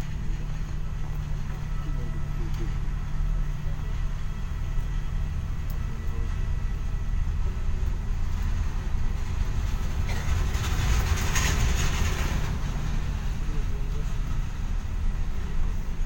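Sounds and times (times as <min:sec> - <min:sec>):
bus cabin rumble: 0:00.0 - 0:16.0.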